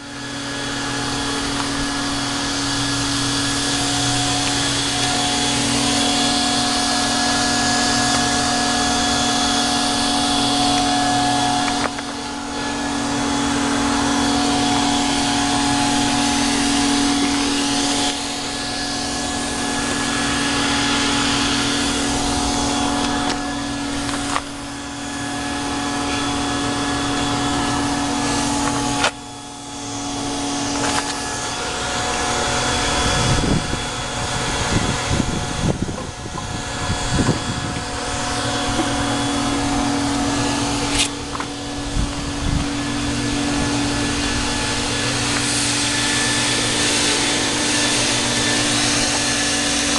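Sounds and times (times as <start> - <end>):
car engine idling with whine: 0.0 - 49.9.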